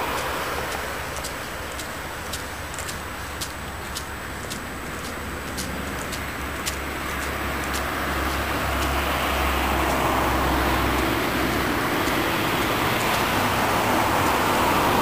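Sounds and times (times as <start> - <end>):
tram rolling on rails: 0.0 - 15.0.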